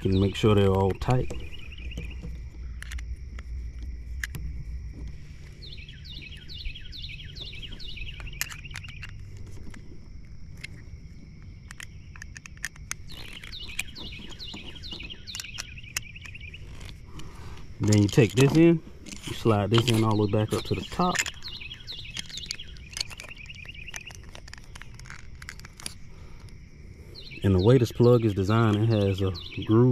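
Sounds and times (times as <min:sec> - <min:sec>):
bird chirping: 0:00.0 - 0:03.1, 0:05.0 - 0:09.9, 0:10.6 - 0:29.9.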